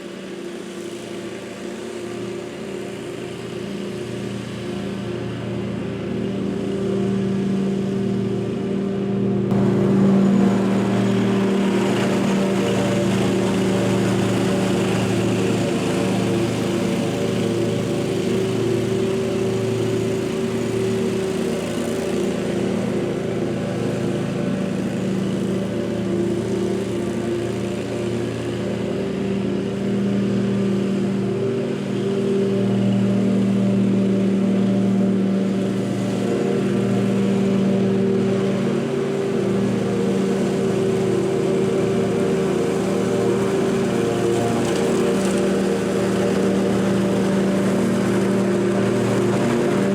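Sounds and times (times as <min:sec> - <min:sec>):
small petrol engine running steadily: 0:00.0 - 0:49.9.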